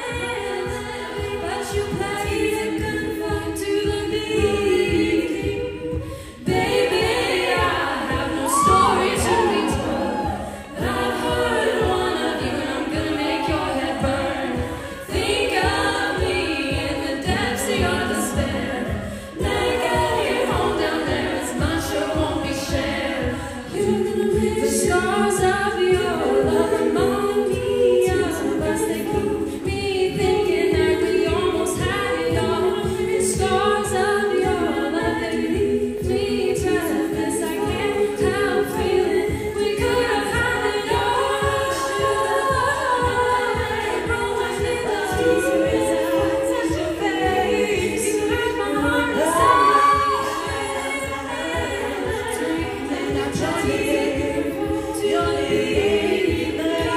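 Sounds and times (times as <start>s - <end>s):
a cappella group singing: 0.0s - 56.9s
beatboxing hi-hat clicks: 0.0s - 56.9s
beatboxing kick thumps: 0.0s - 56.9s.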